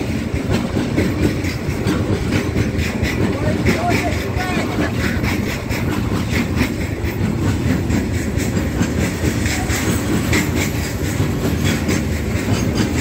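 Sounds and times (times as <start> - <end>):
train wheels rumbling on rails: 0.0 - 13.0
wheels clicking over track joints: 0.0 - 13.0.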